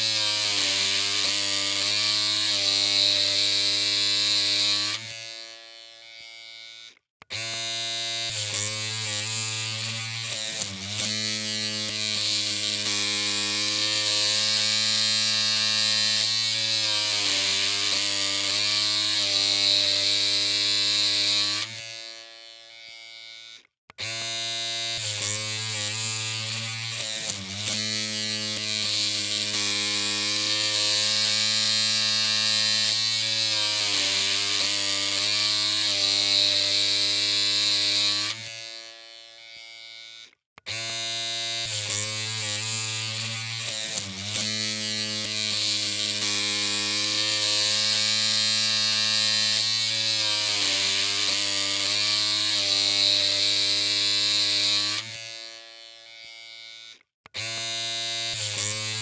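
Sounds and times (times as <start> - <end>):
electric hair clippers buzzing: 0.0 - 59.0.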